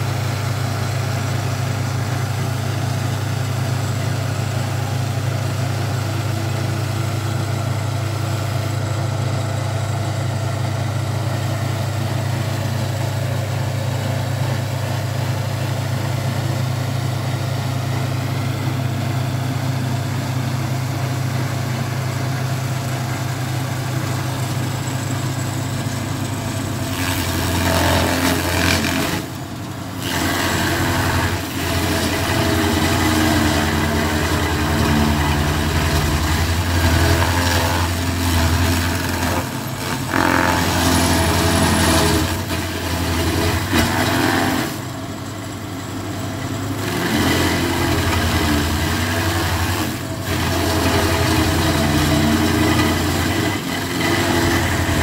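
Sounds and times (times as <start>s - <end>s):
cutting wheel grinding stump: 0.0s - 55.0s
stump grinder engine running: 0.0s - 55.0s.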